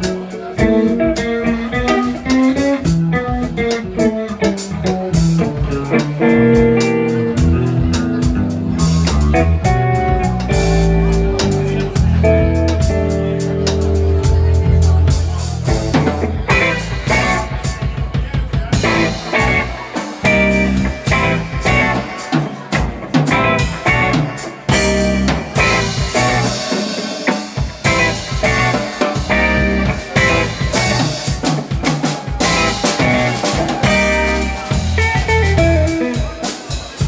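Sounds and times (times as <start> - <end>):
electric bass: 0.0 - 17.9, 18.7 - 26.8, 27.7 - 36.3
busy drumming: 0.0 - 37.0
electric guitar: 0.0 - 37.0.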